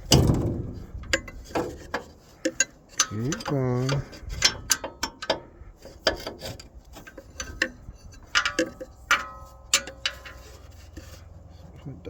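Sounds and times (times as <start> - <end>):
hand tools clinking on metal: 1.1 - 10.8.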